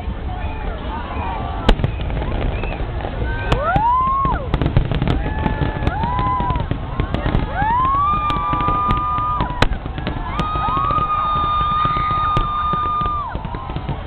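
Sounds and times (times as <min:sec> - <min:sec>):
high firework whistles: 0:00.3 - 0:14.0
firework shells bursting and crackling: 0:01.6 - 0:14.0
sharp firework bang: 0:01.7 - 0:14.0.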